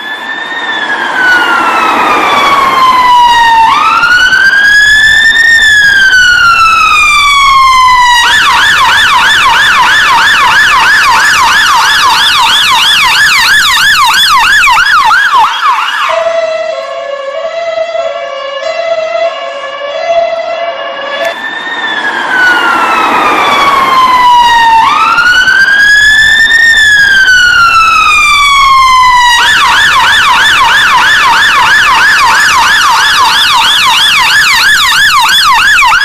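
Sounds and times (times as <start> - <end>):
ambulance siren: 0.0 - 36.0.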